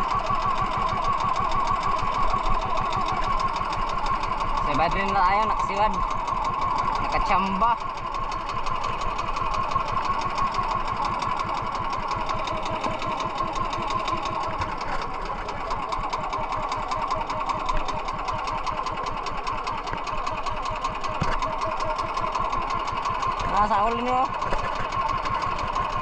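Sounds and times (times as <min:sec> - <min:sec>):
boat engine puttering: 0:00.0 - 0:26.0.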